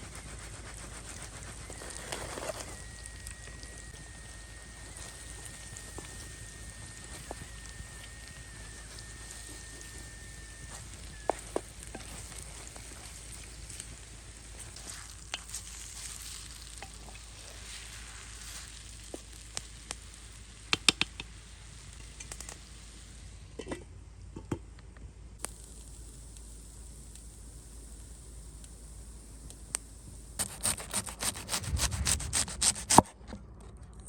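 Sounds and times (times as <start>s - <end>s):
food sizzling in oil: 0.0s - 23.6s, 25.4s - 33.1s
sharp clicks of frying: 0.0s - 33.2s.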